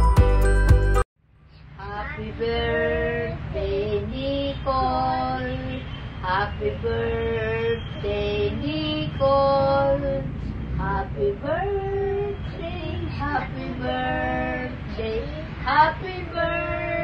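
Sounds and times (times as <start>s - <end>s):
elderly woman singing: 1.8s - 17.0s.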